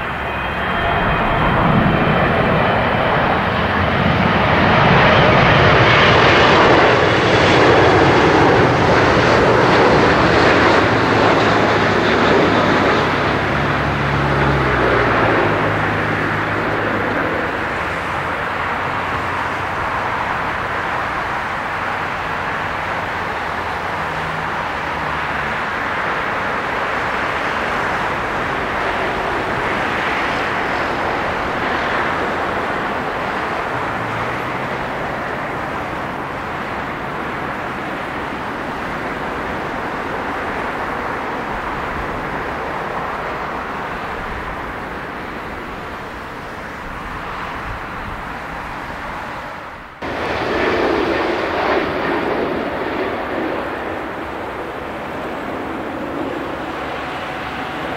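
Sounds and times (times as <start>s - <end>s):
jet airliner rush: 0.0s - 57.9s.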